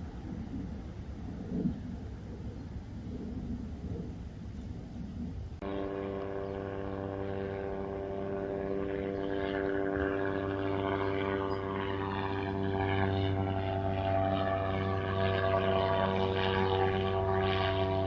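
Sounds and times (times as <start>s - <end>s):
propeller aircraft droning: 0.0s - 18.0s.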